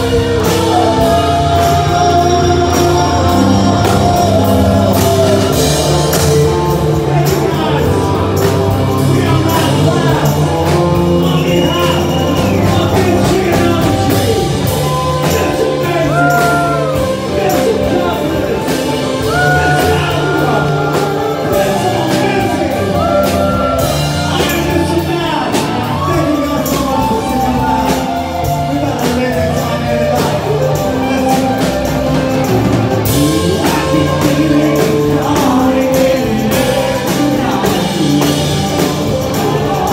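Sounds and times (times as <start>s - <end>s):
live rock band playing: 0.0s - 39.9s
person singing: 0.0s - 39.9s
steady drum beat: 0.0s - 39.9s.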